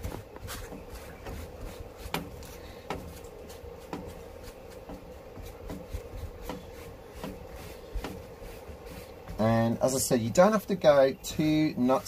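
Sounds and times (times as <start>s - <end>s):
sponge rubbing on canvas: 0.0s - 10.6s.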